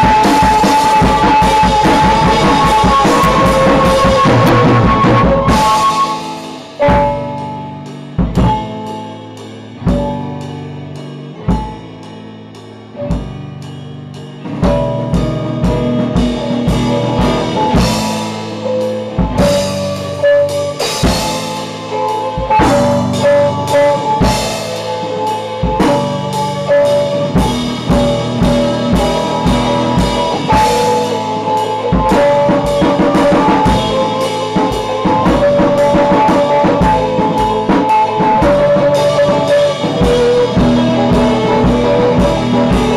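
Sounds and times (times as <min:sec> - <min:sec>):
accented band hits: 0:00.0 - 0:42.9
drum kit: 0:00.0 - 0:42.9
electric guitars: 0:00.0 - 0:42.9.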